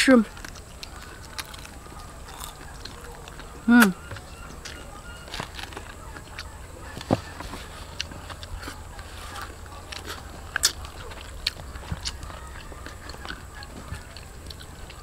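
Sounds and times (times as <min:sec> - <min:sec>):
chewing and biting food: 0:00.3 - 0:15.0.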